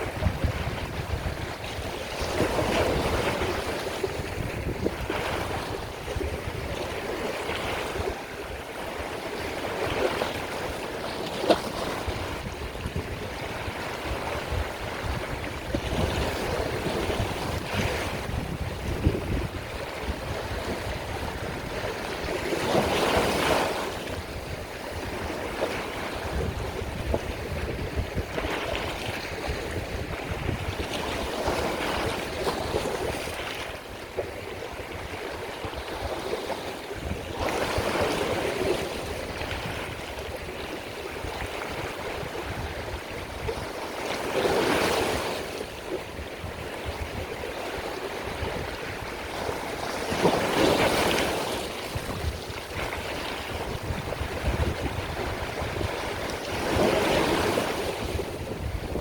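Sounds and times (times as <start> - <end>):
sea waves washing in: 0.0 - 59.0.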